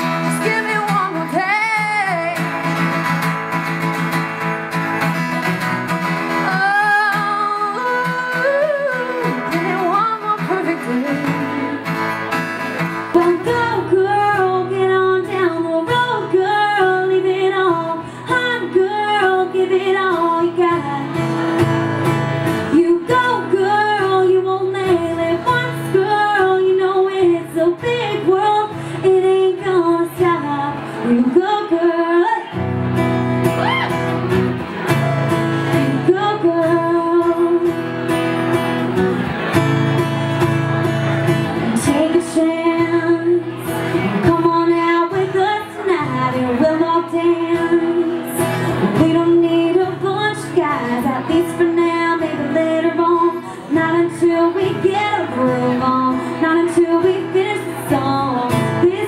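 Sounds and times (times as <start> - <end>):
woman singing: 0.0 - 2.9, 6.0 - 12.2, 13.0 - 21.5, 22.6 - 32.6, 35.6 - 37.9, 41.6 - 59.0
acoustic guitar: 0.0 - 59.0.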